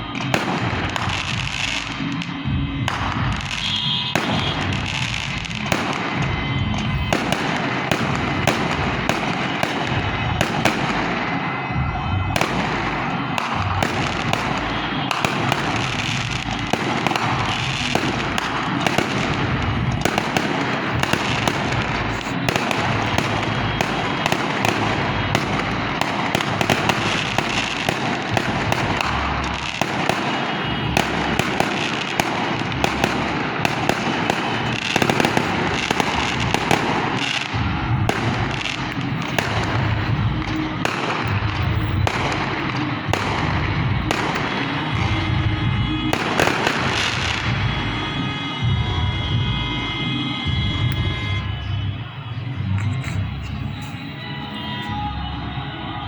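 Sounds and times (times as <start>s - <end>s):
dense crackling with sharp pops: 0.0s - 54.8s.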